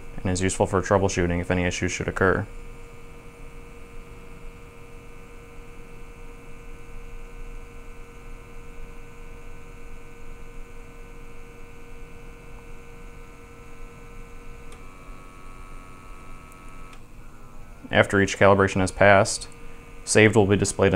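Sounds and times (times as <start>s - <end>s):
steady electric hum: 0.0s - 20.9s.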